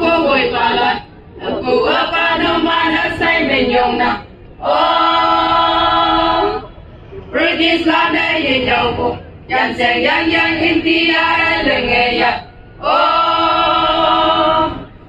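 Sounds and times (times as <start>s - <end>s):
women singing unaccompanied: 0.0s - 6.7s, 7.3s - 15.0s.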